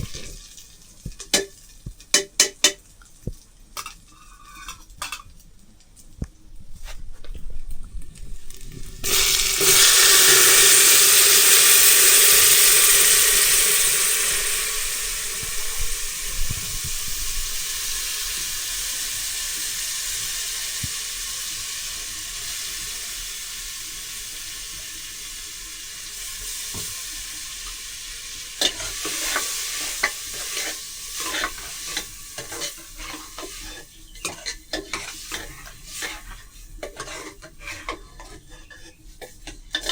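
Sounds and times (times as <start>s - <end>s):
utensil scraping in pan: 0.0s - 2.8s, 3.8s - 5.4s, 6.7s - 25.2s, 26.2s - 39.9s
food sizzling in hot oil: 0.0s - 5.4s, 8.4s - 39.9s.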